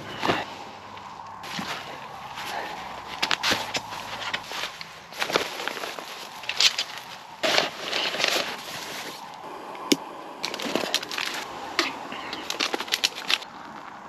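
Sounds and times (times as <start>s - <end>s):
camping gear rustling and crinkling: 0.0s - 14.0s.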